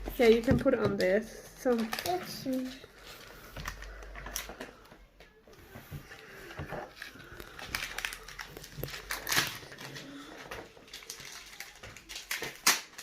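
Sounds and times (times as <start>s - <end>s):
plastic packaging crinkling: 0.0s - 4.8s, 6.2s - 13.0s.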